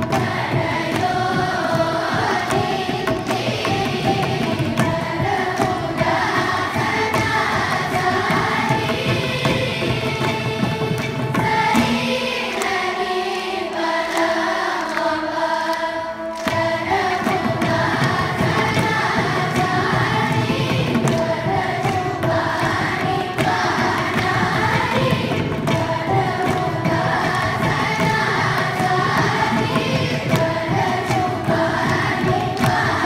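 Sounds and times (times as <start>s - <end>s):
hand drum accompaniment: 0.0s - 15.2s, 16.4s - 33.0s
children's choir singing: 0.0s - 33.0s.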